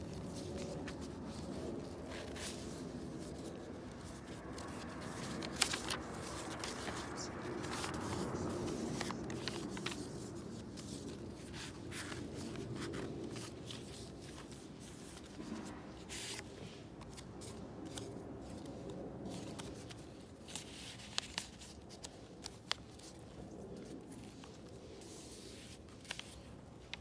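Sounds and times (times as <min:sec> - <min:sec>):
paper pages rustling and flapping: 0:00.0 - 0:27.0.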